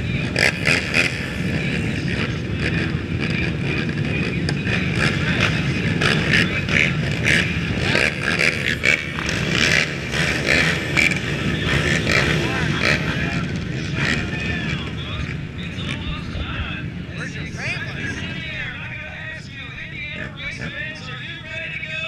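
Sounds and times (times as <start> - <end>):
quad throttle blips and revs: 0.0 - 19.1
quad engines droning: 0.0 - 22.0.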